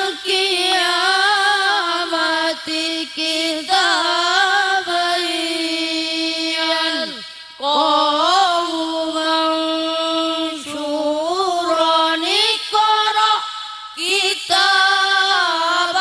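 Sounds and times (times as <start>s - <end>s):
person reciting melodically: 0.0s - 16.0s.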